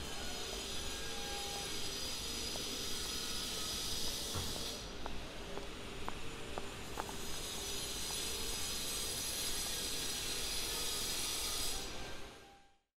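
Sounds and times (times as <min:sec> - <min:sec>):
steady hissing: 0:00.1 - 0:12.3.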